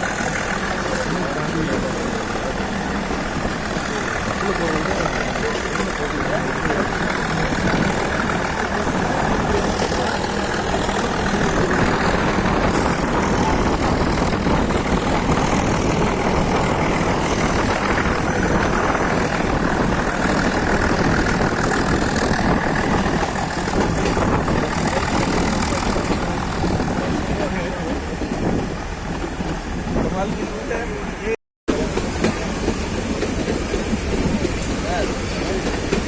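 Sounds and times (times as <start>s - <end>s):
train rumbling in motion: 0.0s - 36.0s.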